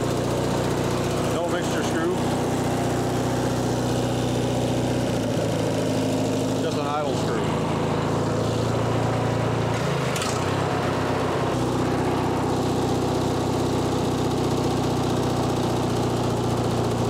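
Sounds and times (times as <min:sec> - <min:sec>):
riding mower engine running: 0:00.0 - 0:17.0.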